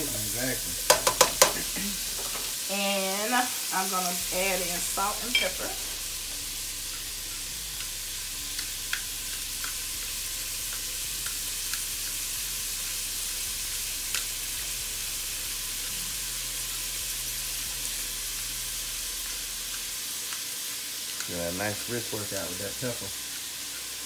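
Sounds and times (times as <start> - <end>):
vegetables sizzling in hot fat: 0.0 - 24.0.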